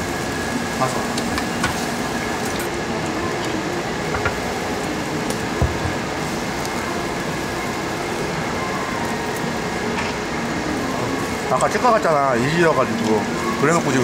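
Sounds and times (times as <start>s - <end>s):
extraction hood humming: 0.0s - 14.0s
meat sizzling on grill: 0.0s - 14.0s.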